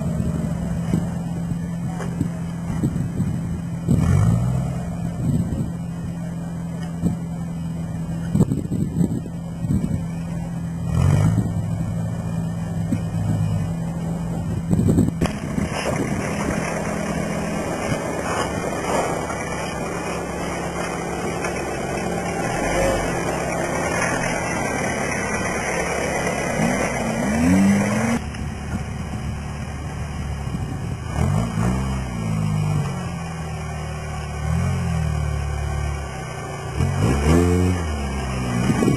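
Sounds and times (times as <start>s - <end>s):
truck engine revving: 0.0s - 7.3s, 8.2s - 28.8s, 30.4s - 38.9s.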